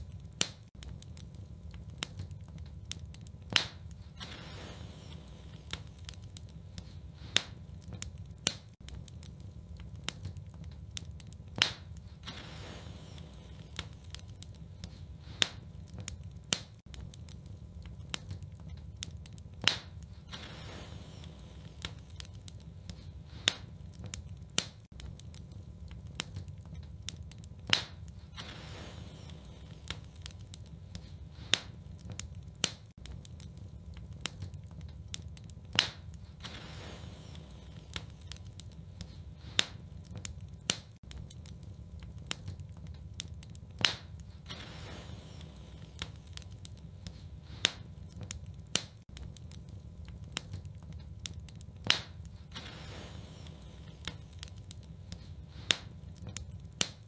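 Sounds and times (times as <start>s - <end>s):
low rumble of flames: 0.0s - 57.0s
soft hiss of fire: 0.0s - 57.0s
wood fire crackling and popping: 0.0s - 57.0s.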